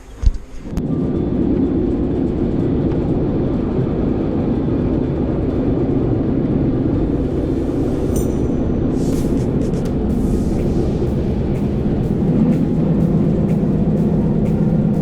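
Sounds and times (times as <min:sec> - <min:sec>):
train running low rumble: 0:00.0 - 0:15.0.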